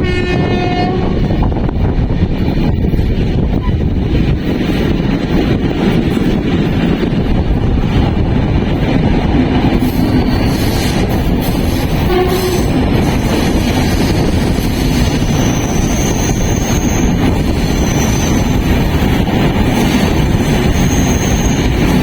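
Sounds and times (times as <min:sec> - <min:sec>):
passenger train rumbling on track: 0:00.0 - 0:22.0.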